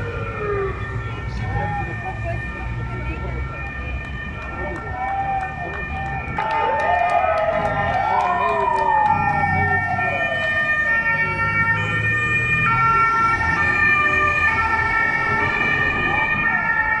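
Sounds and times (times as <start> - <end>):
low rumble of vehicle engines: 0.0 - 17.0
sirens wailing: 0.0 - 17.0.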